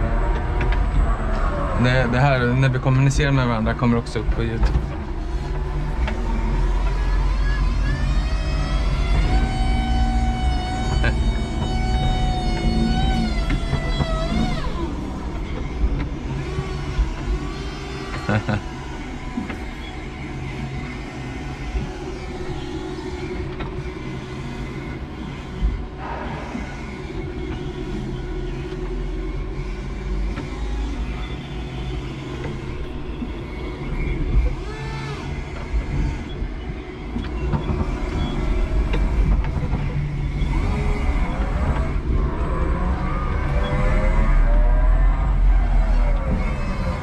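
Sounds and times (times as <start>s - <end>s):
low rumble: 0.0s - 34.7s, 35.3s - 47.0s
electric motor hum: 0.0s - 47.0s.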